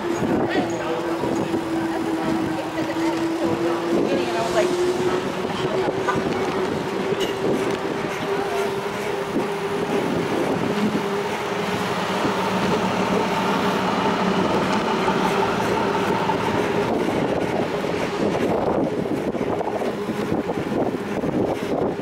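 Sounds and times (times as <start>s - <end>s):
bicycle rolling on asphalt: 0.0s - 22.0s.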